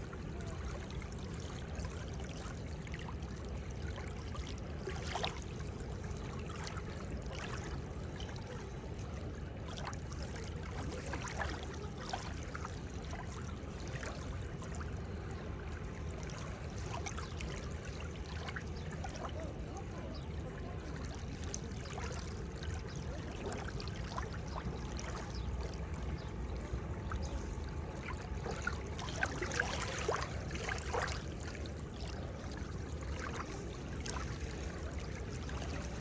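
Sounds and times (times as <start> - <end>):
small splashes and trickles: 0.0 - 36.0
water rushing at shore: 0.0 - 36.0.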